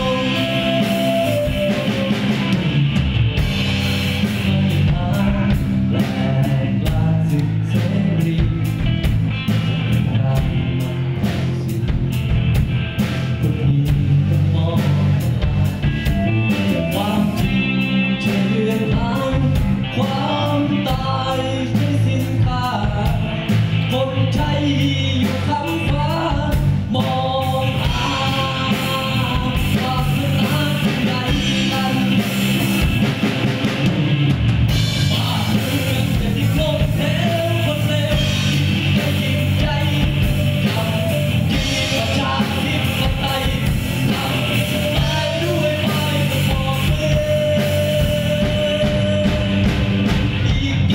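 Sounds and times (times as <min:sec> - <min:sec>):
man singing: 0:00.0 - 0:33.9, 0:34.7 - 0:50.9
live rock band playing: 0:00.0 - 0:50.9.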